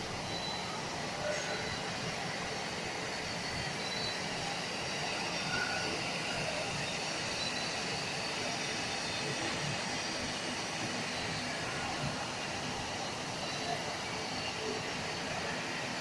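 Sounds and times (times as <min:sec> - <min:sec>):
production line machine hum: 0:00.0 - 0:16.0.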